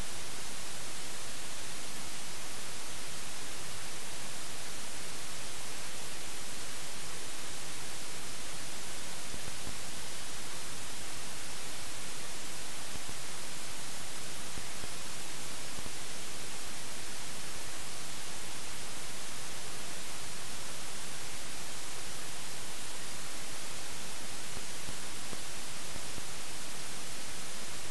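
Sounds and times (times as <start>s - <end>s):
static hiss: 0.0s - 27.9s.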